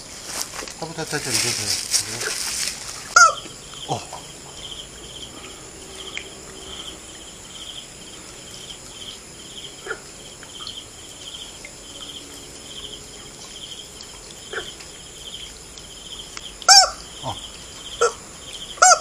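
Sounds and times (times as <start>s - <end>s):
high-pitched insect drone: 0.0s - 19.0s
insect chirping in buzzy pulses: 0.0s - 19.0s.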